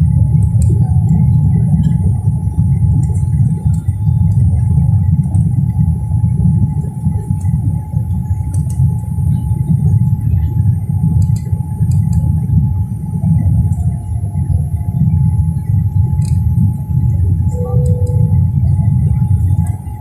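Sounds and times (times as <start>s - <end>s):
airliner cabin roar: 0.0s - 20.0s
faint steady whine: 0.0s - 20.0s.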